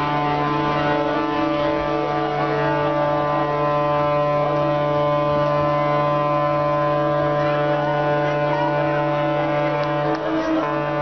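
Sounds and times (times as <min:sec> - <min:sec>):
ship's horn long blast: 0:00.0 - 0:11.0.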